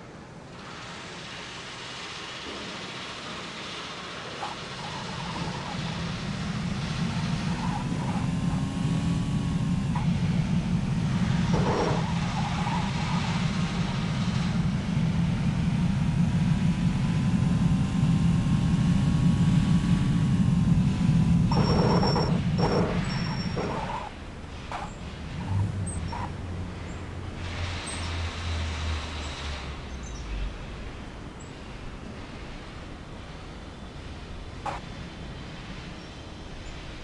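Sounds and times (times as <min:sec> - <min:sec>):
vehicle low rumble: 0:02.1 - 0:37.0.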